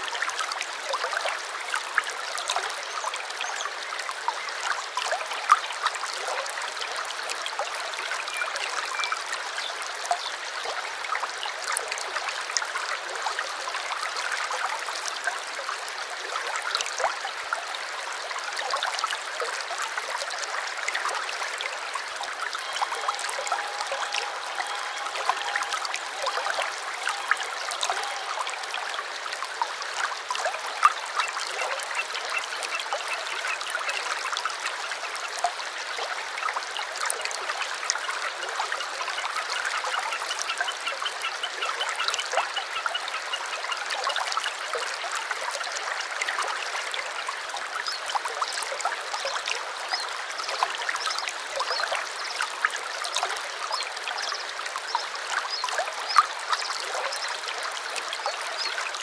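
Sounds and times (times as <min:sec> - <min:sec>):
stream trickling and babbling: 0:00.0 - 0:59.0.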